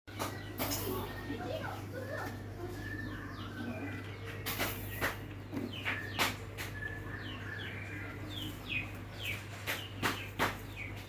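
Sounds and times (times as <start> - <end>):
small birds chirping: 0.1 - 11.0
steady low hum: 0.1 - 11.0.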